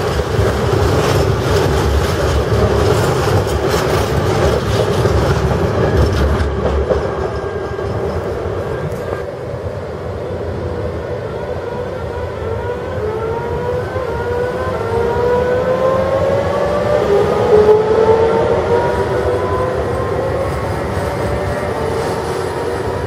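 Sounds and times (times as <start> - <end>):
electric train whine rising: 0.0 - 23.0
train wheels rumbling on rail: 0.0 - 23.0.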